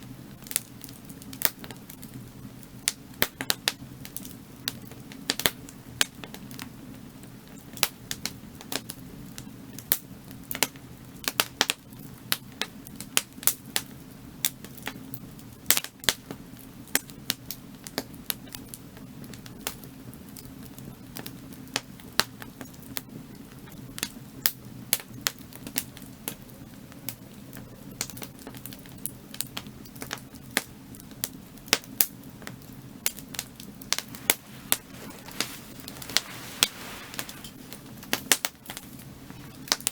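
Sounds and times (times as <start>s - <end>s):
low fire rumble: 0.0s - 39.9s
firewood crackling and popping: 0.4s - 39.9s.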